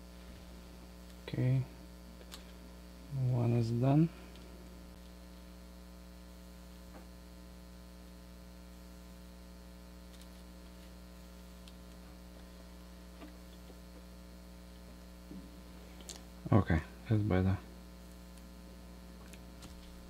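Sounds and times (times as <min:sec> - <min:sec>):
low electrical mains hum: 0:00.0 - 0:20.0.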